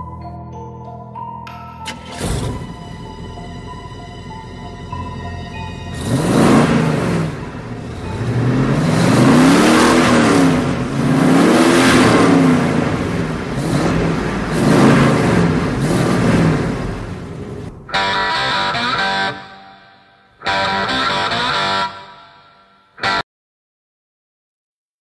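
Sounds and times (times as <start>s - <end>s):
car engine revving: 1.9s - 23.2s.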